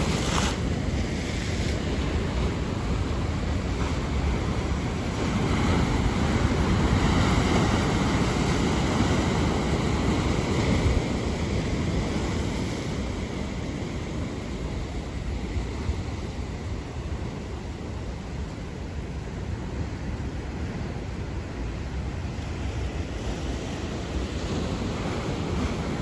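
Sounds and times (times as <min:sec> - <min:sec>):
waves breaking on shore: 0:00.0 - 0:26.0.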